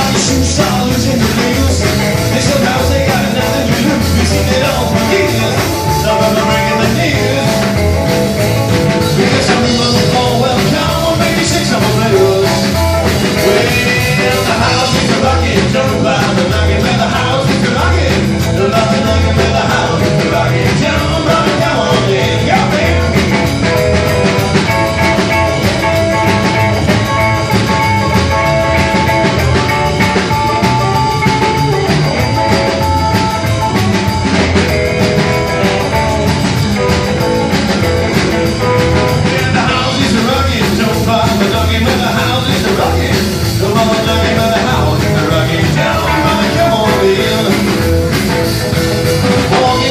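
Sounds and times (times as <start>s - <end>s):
drum kit beat: 0.0s - 49.9s
electric guitar: 0.0s - 49.9s
rockabilly band playing: 0.0s - 49.9s
upright double bass: 0.0s - 49.9s.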